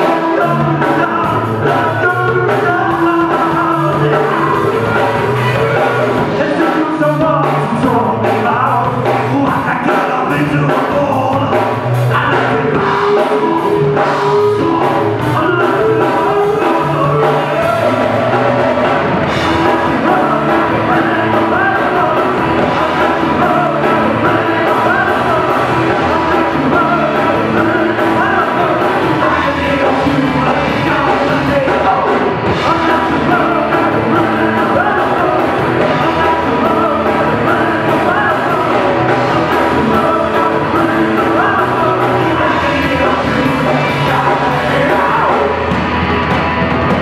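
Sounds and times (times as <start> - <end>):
lead vocal singing: 0.0 - 46.3
live rock band playing: 0.0 - 47.0.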